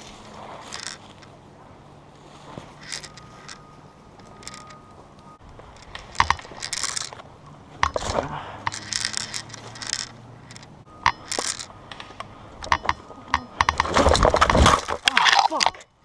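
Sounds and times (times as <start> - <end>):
rustling: 0.0 - 15.9
sharp metallic clicks: 0.6 - 1.4, 2.7 - 16.0.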